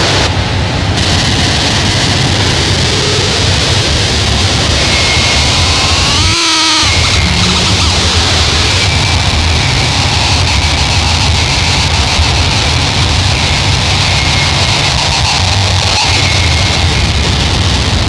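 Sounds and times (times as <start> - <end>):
heavy low rumble: 0.0 - 18.0
wall of distorted noise: 0.0 - 18.0.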